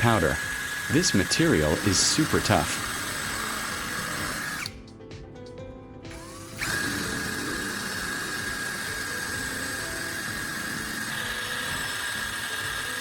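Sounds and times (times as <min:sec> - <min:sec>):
electric drill boring into wood: 0:00.0 - 0:04.8, 0:06.1 - 0:13.0
background music: 0:00.0 - 0:13.0.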